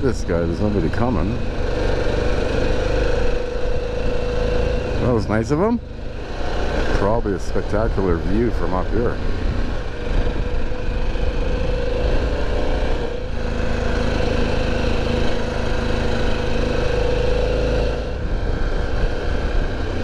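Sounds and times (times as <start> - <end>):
wind rushing over microphone: 0.0 - 15.6, 16.2 - 20.0
motorcycle engine running: 0.0 - 20.0.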